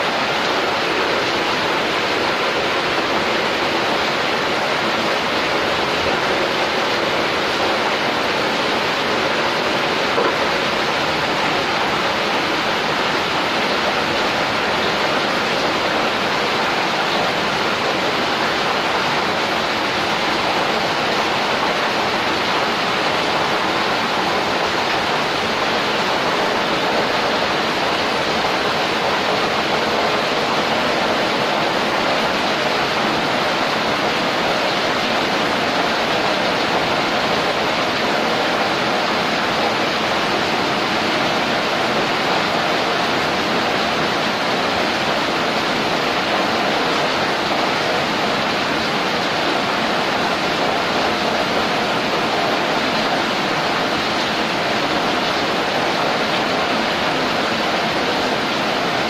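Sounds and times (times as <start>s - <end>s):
steamer pot boiling hard: 0.0s - 59.0s.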